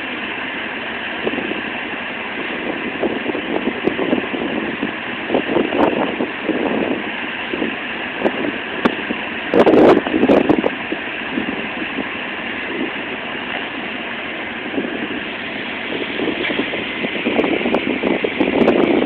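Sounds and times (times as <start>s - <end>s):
wind buffeting microphone: 1.1s - 13.4s, 14.3s - 19.0s.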